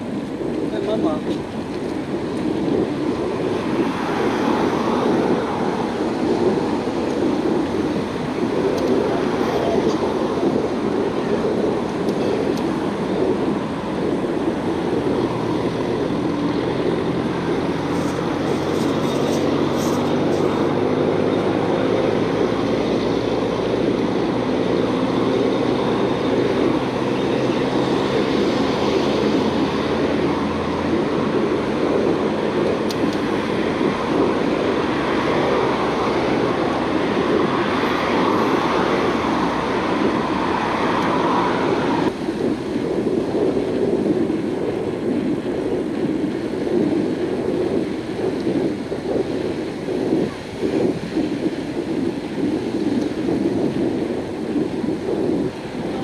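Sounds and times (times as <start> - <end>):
low engine hum: 0.0 - 56.0
road traffic: 0.0 - 56.0
wind on microphone: 0.0 - 56.0.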